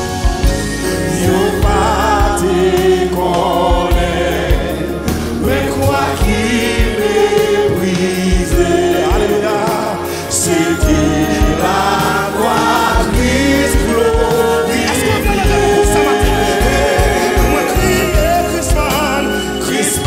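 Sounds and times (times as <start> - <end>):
steady low beat: 0.0 - 9.7, 10.6 - 20.0
backing vocalists: 0.0 - 20.0
gospel worship song singing: 0.0 - 20.0
instruments with low notes: 0.0 - 20.0.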